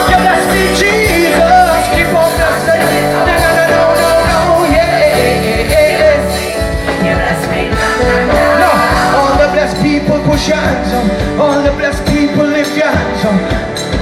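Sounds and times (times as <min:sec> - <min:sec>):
live band playing gospel song: 0:00.0 - 0:14.0
person singing: 0:00.0 - 0:14.0
steady drum beat: 0:00.0 - 0:14.0
sustained keyboard chords: 0:00.0 - 0:14.0.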